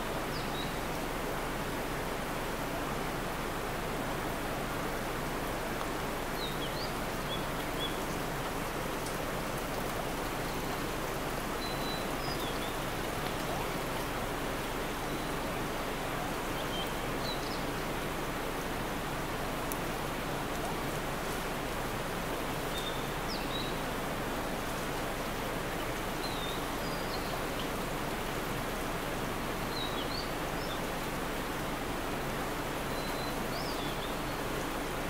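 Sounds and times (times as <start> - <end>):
mountain stream rushing: 0.0 - 35.0.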